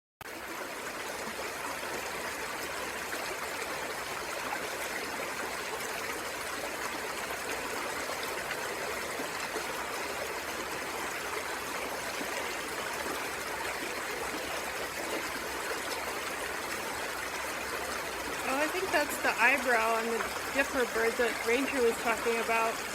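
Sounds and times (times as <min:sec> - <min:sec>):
river flowing: 0:00.3 - 0:22.9.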